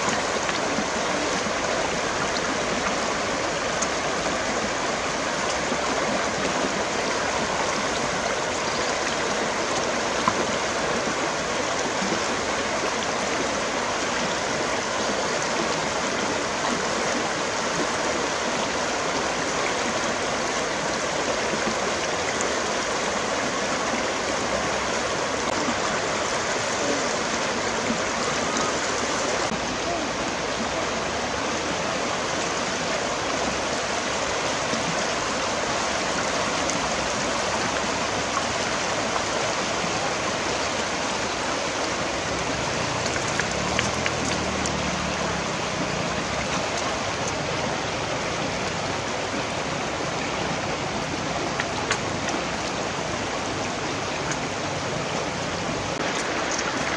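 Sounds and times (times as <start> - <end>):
river rushing over rocks: 0.0 - 56.9.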